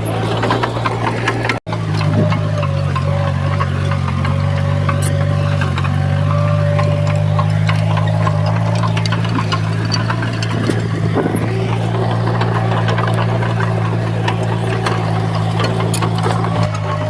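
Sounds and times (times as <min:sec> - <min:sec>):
heavy diesel engine running: 0:00.0 - 0:17.0
metal clanks and knocks: 0:00.0 - 0:17.0.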